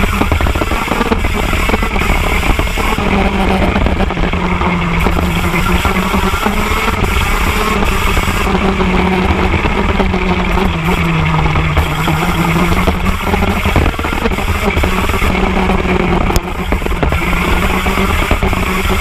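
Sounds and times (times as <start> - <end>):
kart engine running hard: 0.0 - 19.0.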